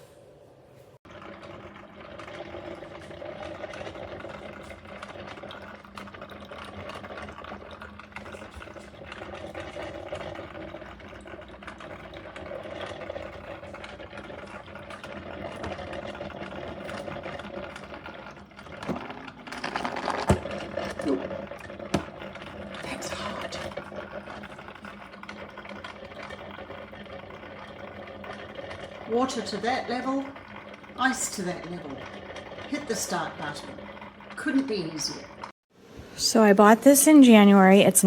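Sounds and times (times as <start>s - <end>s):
steady rattling hum: 0.0s - 38.0s
water gurgling and spitting: 1.1s - 35.5s.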